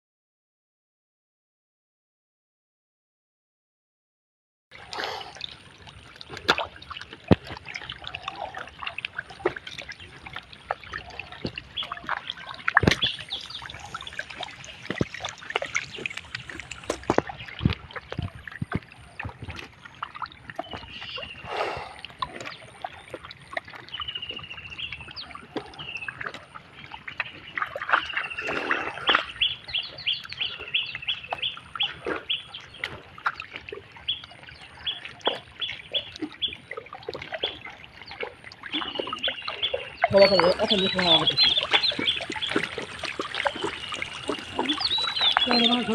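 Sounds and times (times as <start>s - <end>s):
squelching and splashing in mud: 4.8s - 45.9s.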